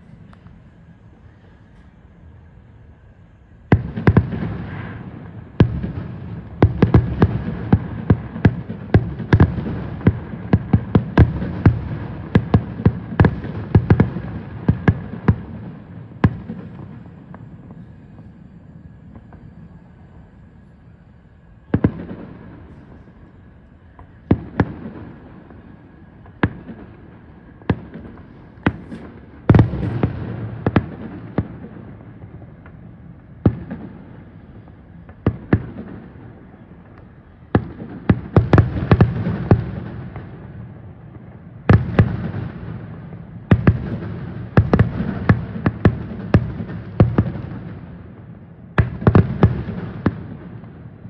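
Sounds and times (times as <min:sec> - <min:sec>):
distant fireworks bangs with echo: 0:03.6 - 0:51.0.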